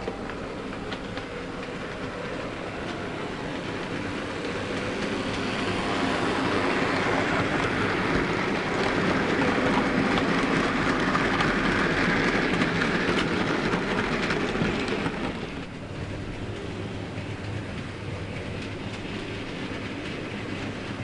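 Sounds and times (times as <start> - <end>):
model train running: 0.0 - 21.0
wheels clicking over rail joints: 0.0 - 21.0.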